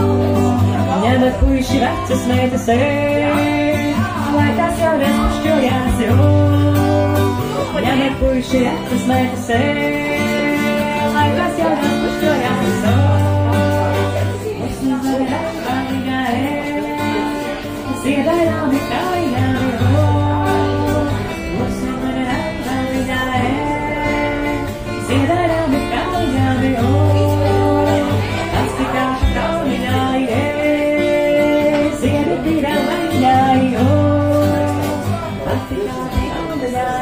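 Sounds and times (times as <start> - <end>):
acoustic guitar: 0.0 - 37.0
woman singing: 0.0 - 37.0.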